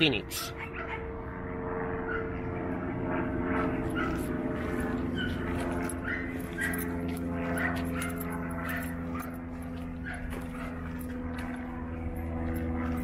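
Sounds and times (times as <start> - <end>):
steady low hum: 0.0 - 13.0
dogs whining and yipping: 0.4 - 1.2, 2.0 - 2.5, 3.5 - 13.0.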